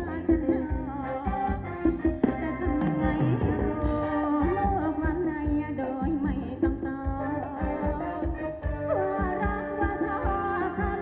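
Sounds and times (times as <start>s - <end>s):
person singing: 0.0s - 11.0s
steady drum beat: 0.0s - 11.0s.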